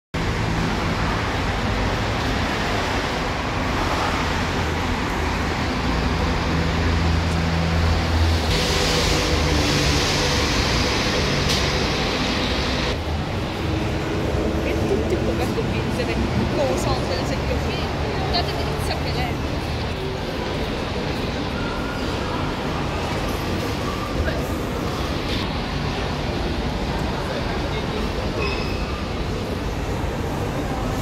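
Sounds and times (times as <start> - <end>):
road traffic noise: 0.1 - 31.0.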